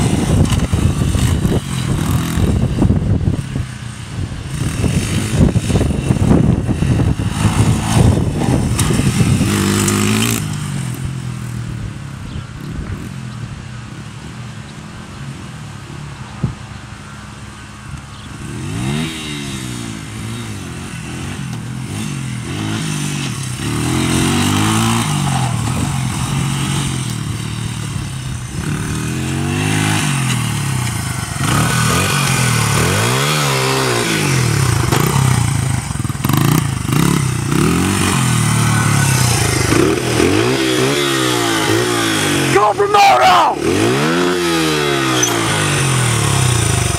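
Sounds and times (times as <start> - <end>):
dirt bike engine revving: 0.0 - 11.9, 18.3 - 46.9.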